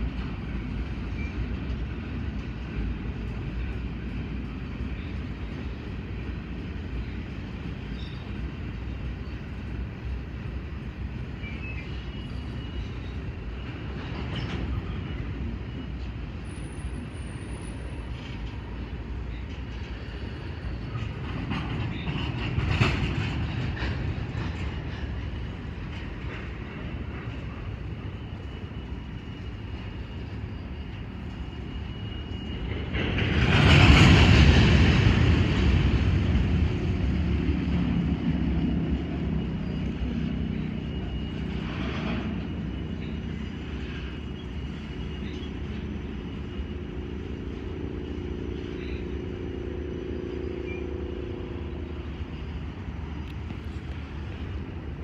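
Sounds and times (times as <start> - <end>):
rush of train noise: 0.0 - 55.0
train wheels rumbling on rail: 0.0 - 55.0.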